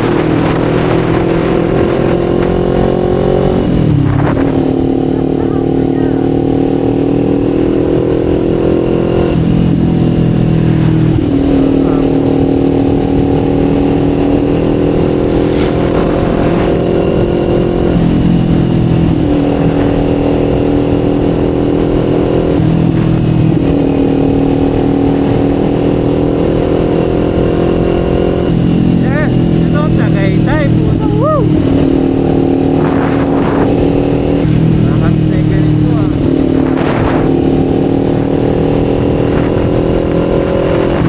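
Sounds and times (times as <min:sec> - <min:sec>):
motorcycle engine under throttle: 0:00.0 - 0:41.0.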